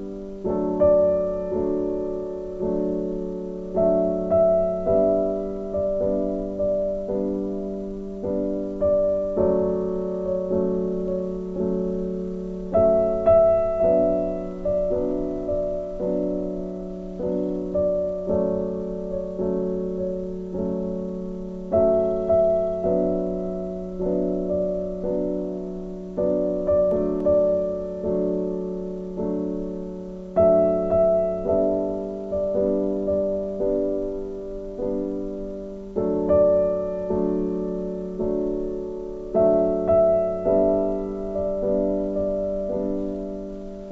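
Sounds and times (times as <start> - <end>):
slow gentle piano: 0.0 - 43.9.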